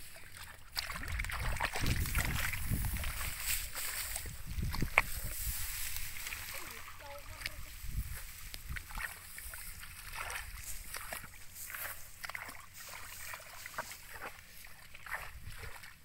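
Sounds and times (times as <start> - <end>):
hands scraping in wet mud: 0.0 - 15.9
low steady rumble: 0.0 - 16.0.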